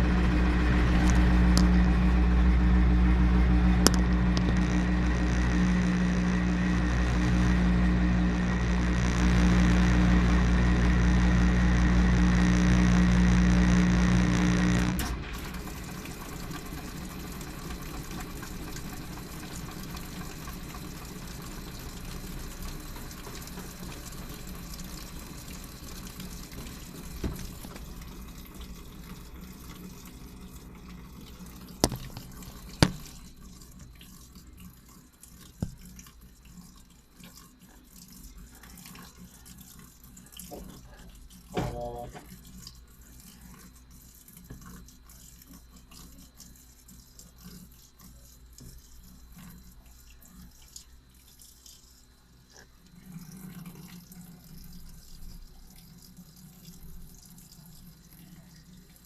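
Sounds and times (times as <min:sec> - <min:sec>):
washing machine filling with water: 0:00.0 - 0:59.0.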